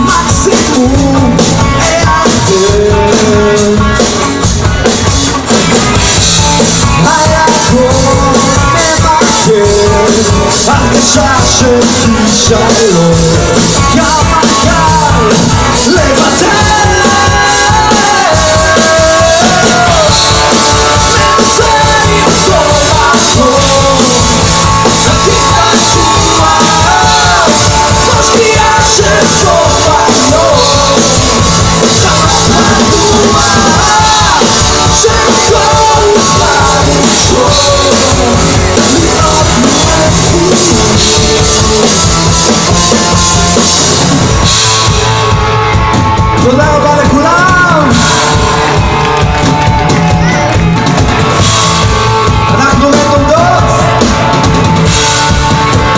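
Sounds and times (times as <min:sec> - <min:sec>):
man singing: 0:00.0 - 0:05.0, 0:06.2 - 0:43.9, 0:46.3 - 0:48.5, 0:52.4 - 0:54.4
rock band playing: 0:00.0 - 0:55.9.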